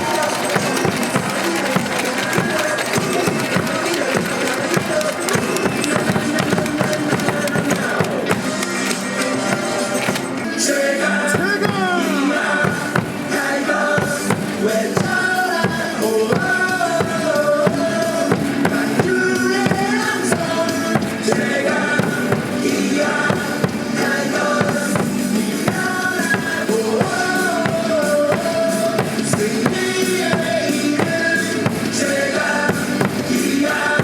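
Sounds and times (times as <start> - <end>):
cheer music over loudspeakers: 0.0 - 34.0.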